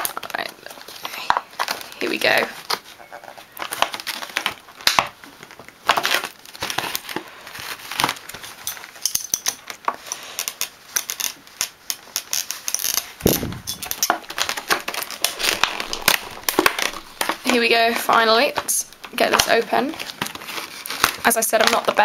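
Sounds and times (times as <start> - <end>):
plastic packaging crackling: 3.5 - 22.0.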